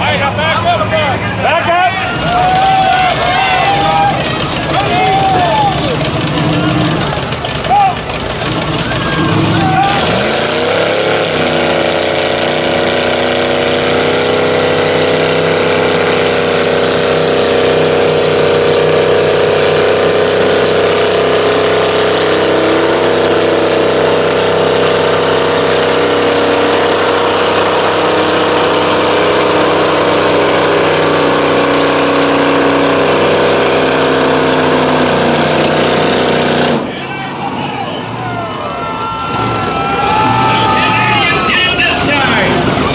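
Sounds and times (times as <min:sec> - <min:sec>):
truck engine running hard: 0:00.0 - 0:42.9.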